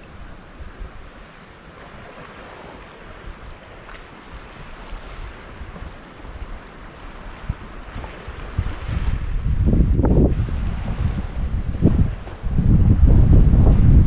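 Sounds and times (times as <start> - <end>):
ocean waves on beach: 0.0 - 14.0
wind buffeting microphone: 0.0 - 14.0.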